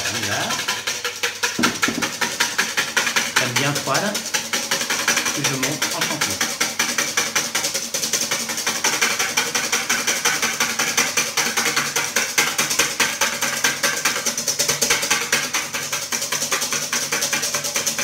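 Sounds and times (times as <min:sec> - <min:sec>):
whisk clattering in metal bowl: 0:00.0 - 0:18.0.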